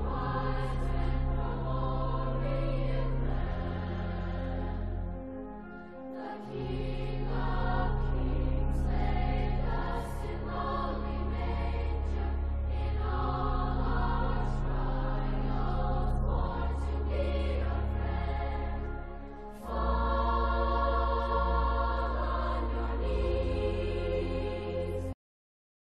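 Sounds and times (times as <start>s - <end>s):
choir singing: 0.0s - 25.2s.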